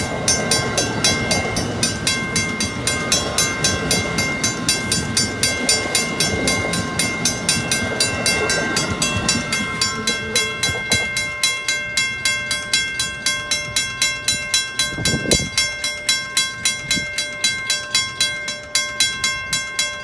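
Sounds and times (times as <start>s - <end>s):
railroad crossing bell ringing: 0.0s - 20.0s
train rumbling past: 0.0s - 20.0s.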